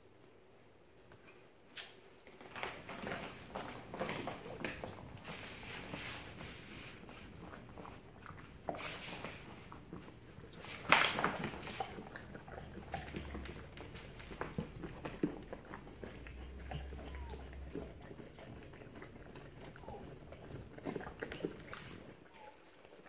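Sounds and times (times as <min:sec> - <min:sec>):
dog licking puppy: 0:02.9 - 0:23.0.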